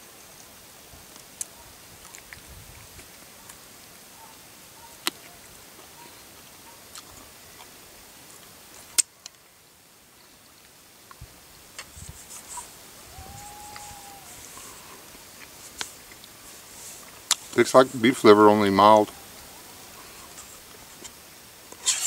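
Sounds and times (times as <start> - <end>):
background hiss: 0.0 - 22.0.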